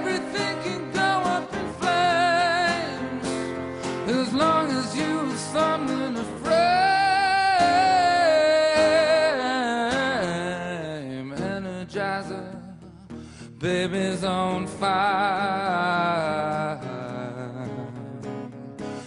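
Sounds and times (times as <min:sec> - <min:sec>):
guitar accompaniment: 0:00.0 - 0:19.0
man singing: 0:00.0 - 0:19.0.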